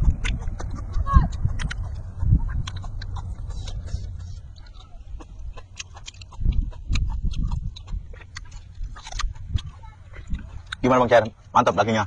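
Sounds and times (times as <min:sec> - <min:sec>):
people chewing with wet mouth clicks: 0:00.0 - 0:11.8.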